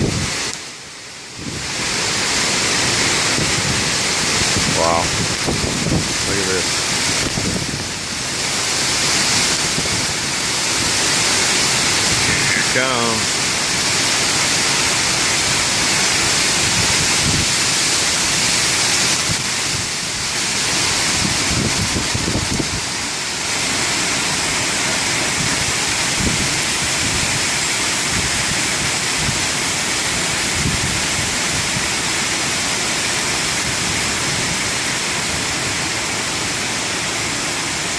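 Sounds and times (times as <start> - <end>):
wind blowing through trees: 0.0 - 37.9.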